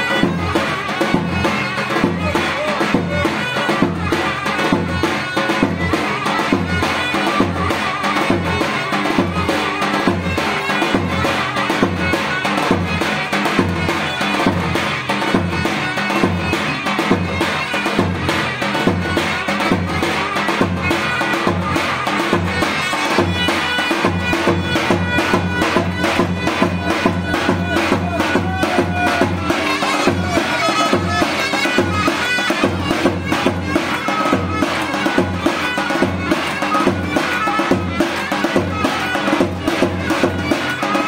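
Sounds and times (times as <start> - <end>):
loud reed wind instrument melody: 0.0 - 41.0
steady drum beat: 0.0 - 41.0.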